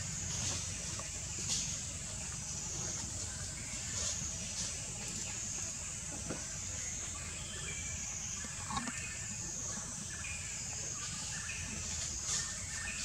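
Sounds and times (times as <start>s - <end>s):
insect chorus drone: 0.0s - 13.0s
faint chirps: 2.3s - 13.0s.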